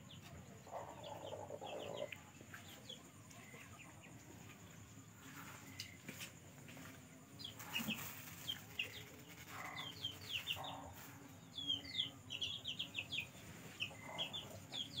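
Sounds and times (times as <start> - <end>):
chickens peeping: 0.0 - 15.0.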